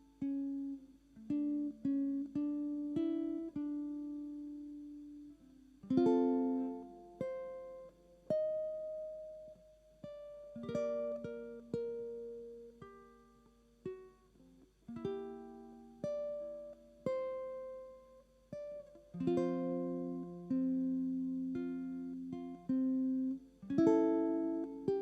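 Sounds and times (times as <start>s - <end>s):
ukulele playing slow piece: 0.0s - 25.0s.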